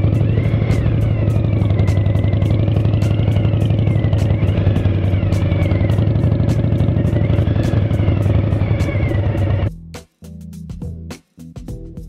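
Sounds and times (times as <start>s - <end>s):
motorcycle engine humming: 0.0s - 9.7s
wind and road noise: 0.0s - 9.7s.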